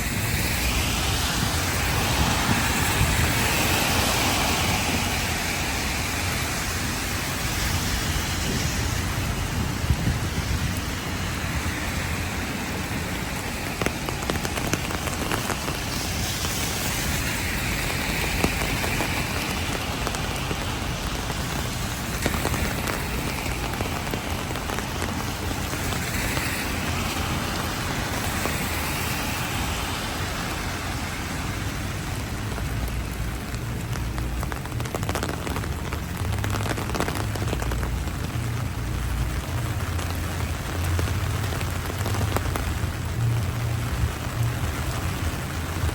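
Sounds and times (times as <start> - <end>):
heavy rain falling: 0.0 - 45.9
raindrops tapping close by: 0.0 - 45.9.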